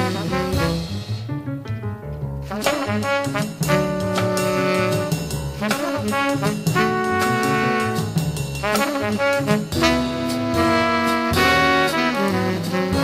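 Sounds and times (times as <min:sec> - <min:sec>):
brass horns holding notes: 0:00.0 - 0:01.3, 0:02.5 - 0:13.0
bass line: 0:00.0 - 0:13.0.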